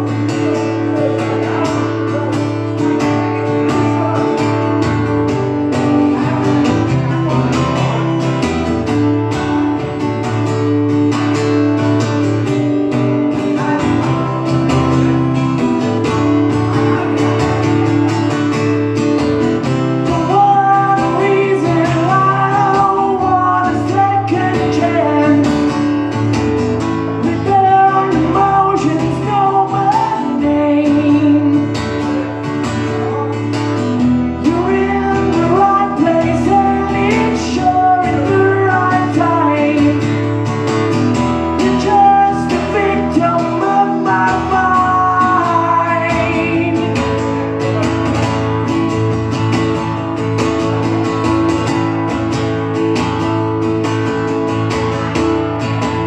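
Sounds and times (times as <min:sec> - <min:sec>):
man singing: 0:00.0 - 0:10.8, 0:11.8 - 0:49.0
acoustic guitar strumming chords: 0:00.0 - 0:56.0.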